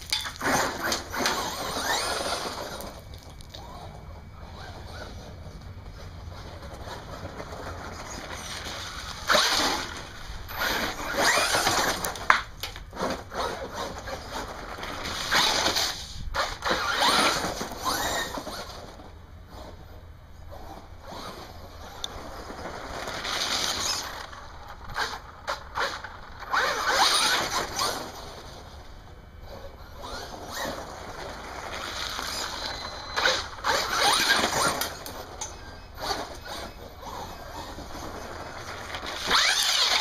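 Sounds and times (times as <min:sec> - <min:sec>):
toy truck motor whine: 0:00.0 - 0:40.0
wheels churning slush: 0:00.0 - 0:40.0.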